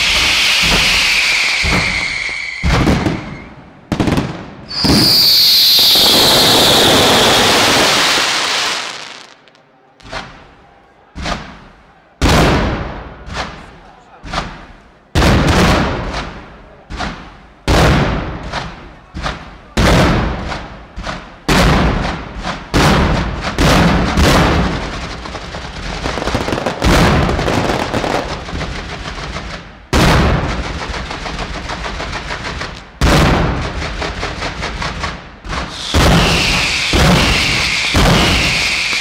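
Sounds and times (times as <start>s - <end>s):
rapid small firework pops: 0.0s - 6.3s, 11.2s - 13.7s, 15.2s - 39.0s
fireworks bangs echoing: 0.0s - 39.0s.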